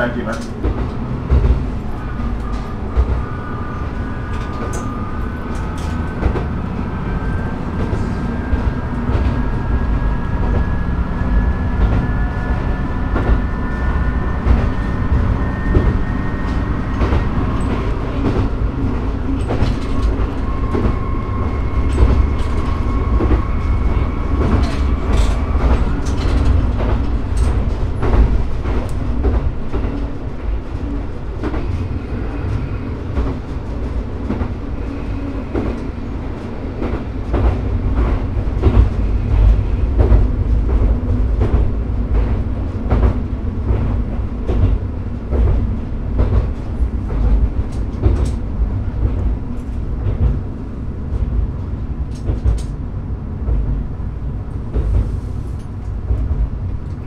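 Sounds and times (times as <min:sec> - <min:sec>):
railcar running noise: 0:00.0 - 0:57.0.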